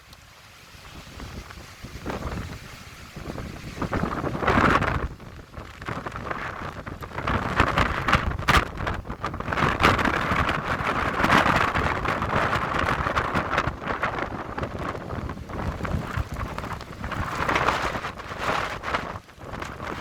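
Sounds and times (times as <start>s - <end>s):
driving rain pelting: 0.0s - 20.0s
wind gusting across microphone: 0.0s - 20.0s.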